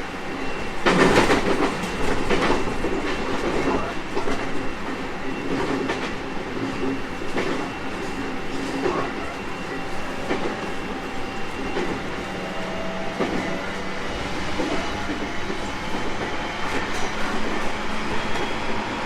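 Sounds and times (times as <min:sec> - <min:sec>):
rail-joint clicks: 0:00.4 - 0:18.6.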